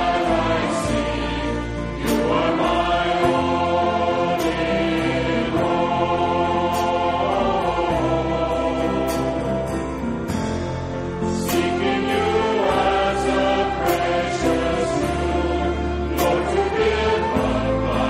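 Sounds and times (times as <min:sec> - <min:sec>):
group singing a hymn: 0:00.0 - 0:10.1, 0:11.4 - 0:18.0.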